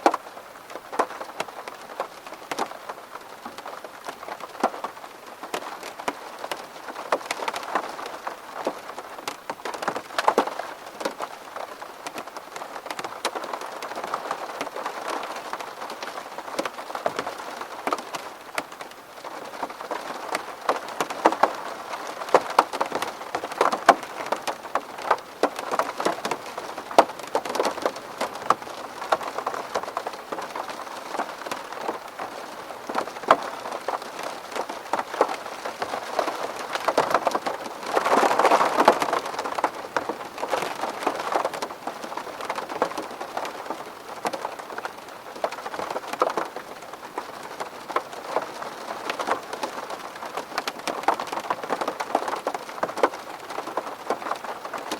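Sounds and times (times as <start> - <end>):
rain tapping on a window: 0.0 - 54.9.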